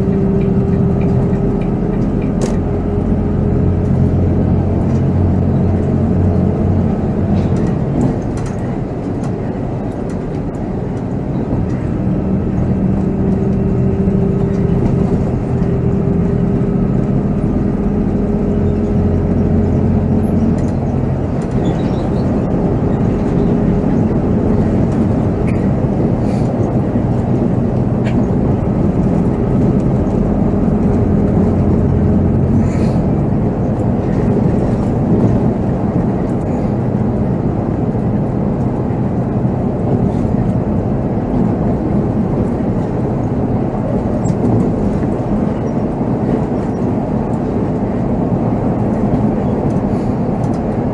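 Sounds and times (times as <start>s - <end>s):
diesel engine running: 0.0s - 50.9s
road and cabin noise: 0.0s - 50.9s.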